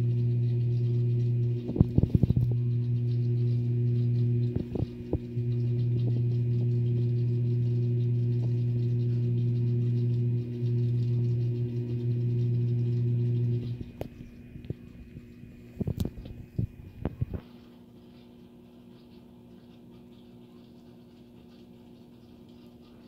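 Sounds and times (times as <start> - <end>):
aquarium pump humming: 0.0 - 23.0.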